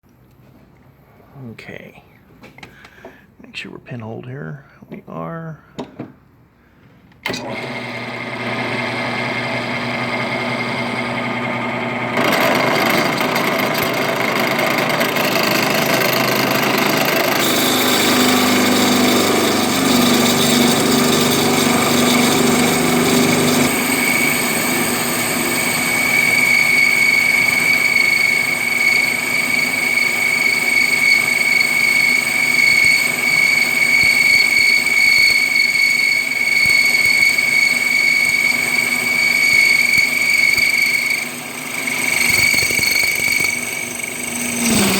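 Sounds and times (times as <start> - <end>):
power tool whining: 7.2 - 44.9.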